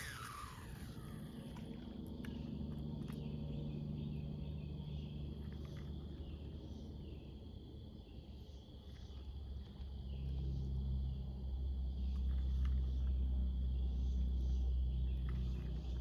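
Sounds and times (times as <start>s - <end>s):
crickets trilling: 0.0s - 16.0s
low steady rumble: 0.0s - 16.0s.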